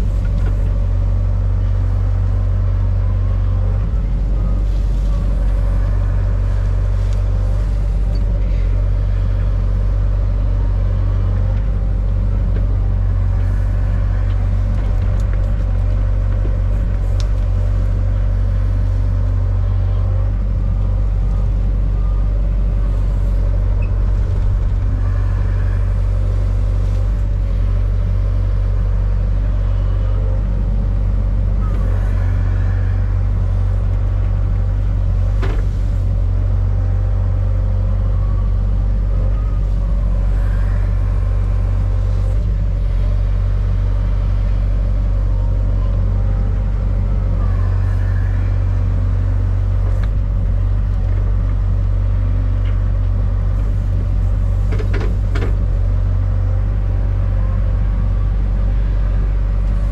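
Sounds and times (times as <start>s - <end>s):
excavator diesel engine running: 0.0s - 59.9s
faint hydraulic whine: 0.0s - 59.9s.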